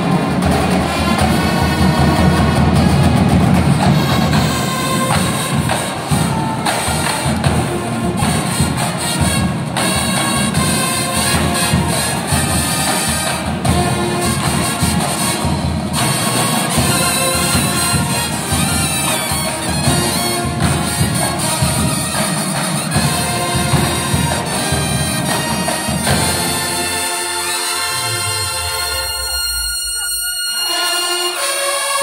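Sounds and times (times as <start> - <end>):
drums striking: 0.0 - 29.6
marching band playing: 0.0 - 32.0.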